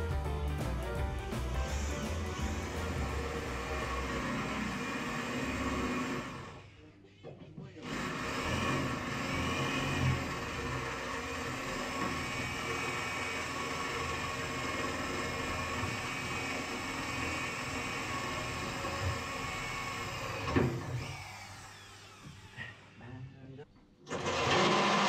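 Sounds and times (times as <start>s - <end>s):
electric drill boring into steel: 1.6s - 6.6s, 7.8s - 23.0s, 24.1s - 25.0s.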